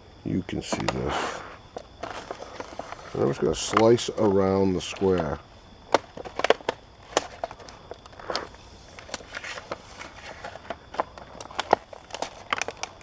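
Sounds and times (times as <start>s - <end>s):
plastic clicks and crackles: 0.6s - 13.0s.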